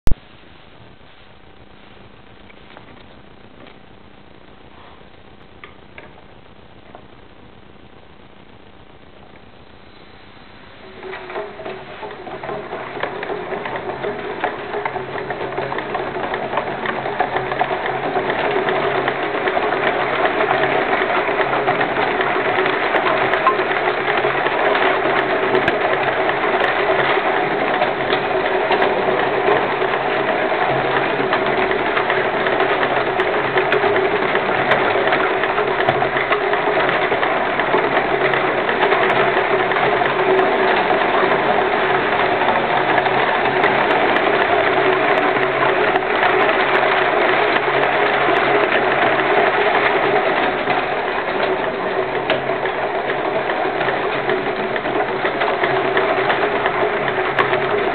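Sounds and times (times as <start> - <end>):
model locomotive clattering: 10.5 - 57.9.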